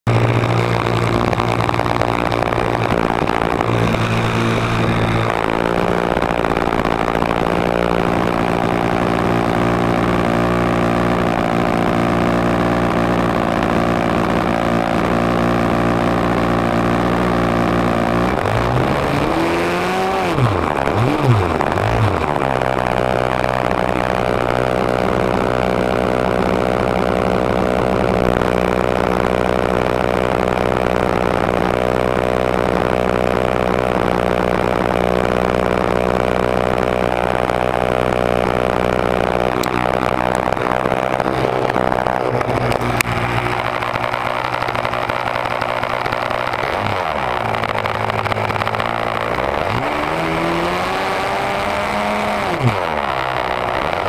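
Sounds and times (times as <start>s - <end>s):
model airplane engine running: 0.1s - 54.0s.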